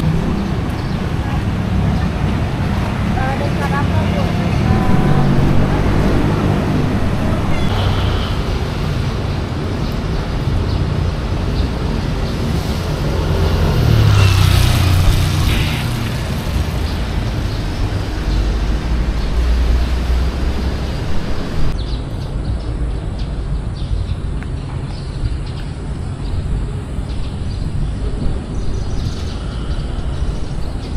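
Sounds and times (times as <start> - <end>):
traffic rumble: 0.0 - 30.9.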